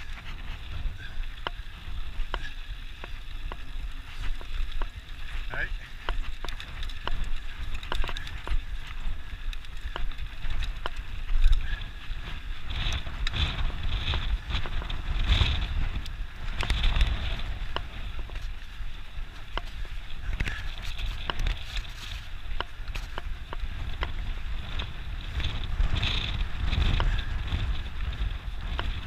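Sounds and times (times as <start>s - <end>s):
bike clicking and rattling: 0.0s - 29.0s
bike tyres on dirt: 0.0s - 29.0s
wind buffeting microphone: 0.0s - 29.0s.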